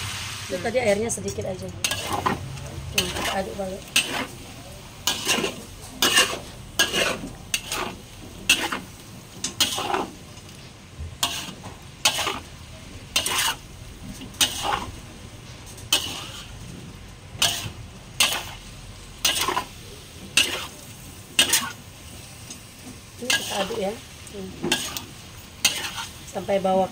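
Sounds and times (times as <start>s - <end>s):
faint sizzle of frying: 0.0s - 26.9s
metal spatula scraping a wok: 0.6s - 10.6s, 11.2s - 15.0s, 15.6s - 16.7s, 17.4s - 21.8s, 23.2s - 26.9s.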